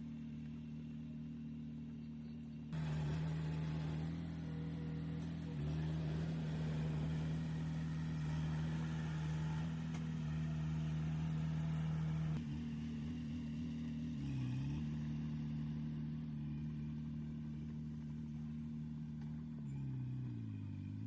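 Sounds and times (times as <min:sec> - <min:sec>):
heavy machinery diesel engine: 0:00.0 - 0:21.0.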